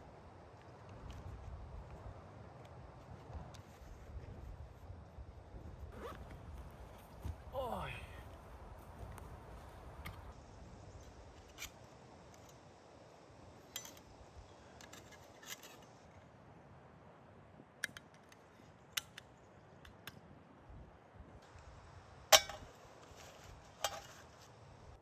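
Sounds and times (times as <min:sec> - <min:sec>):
low steady hiss: 0:00.0 - 0:25.0.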